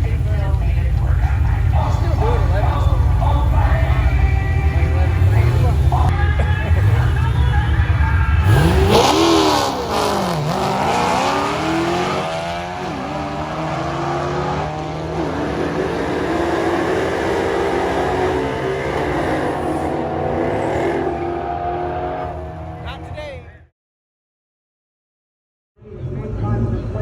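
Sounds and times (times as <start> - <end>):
car engine revving: 0.0 - 23.6.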